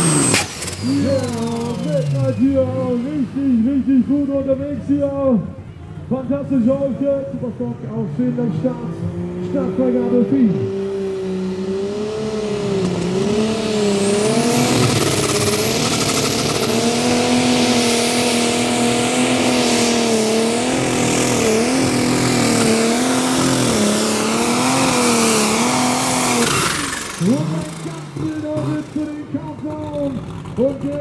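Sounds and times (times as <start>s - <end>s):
turbo whine: 0.0s - 5.8s, 11.2s - 30.7s
diesel tractor engine at full throttle: 0.0s - 31.0s.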